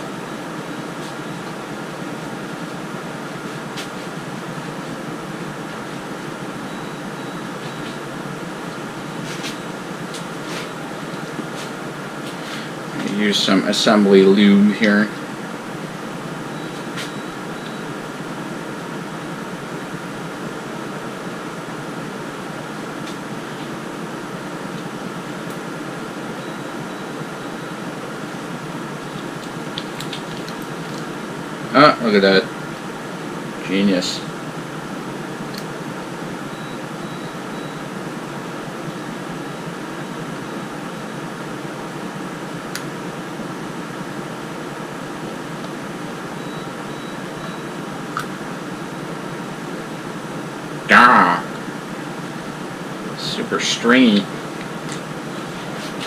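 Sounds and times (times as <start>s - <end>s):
fan hissing: 0.0s - 56.0s.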